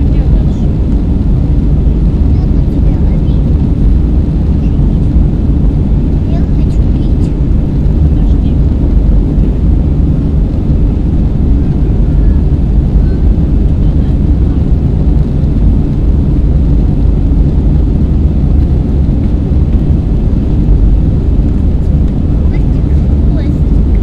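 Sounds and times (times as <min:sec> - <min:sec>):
low rumble of jet engines: 0:00.0 - 0:24.0
rushing air: 0:00.0 - 0:24.0.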